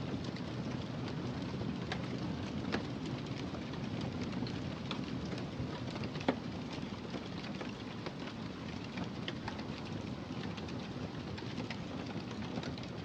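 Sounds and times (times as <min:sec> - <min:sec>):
wood fire crackling: 0:00.1 - 0:13.0.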